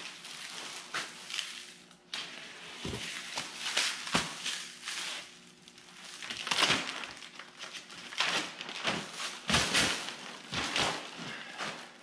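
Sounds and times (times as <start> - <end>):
plastic wrap and foam rustling: 0.0 - 12.0.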